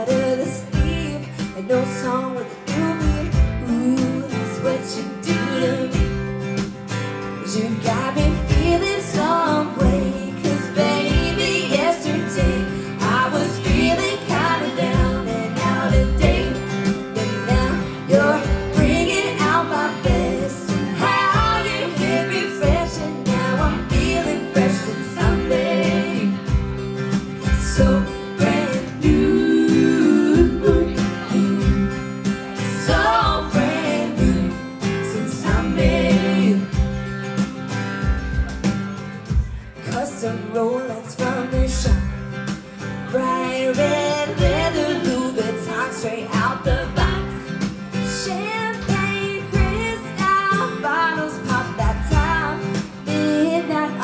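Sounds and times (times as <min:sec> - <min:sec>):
women singing: 0:00.0 - 0:06.4, 0:07.4 - 0:37.1, 0:39.8 - 0:42.3, 0:43.0 - 0:54.0
country-pop band playing: 0:00.0 - 0:54.0
strummed acoustic guitars: 0:00.0 - 0:54.0.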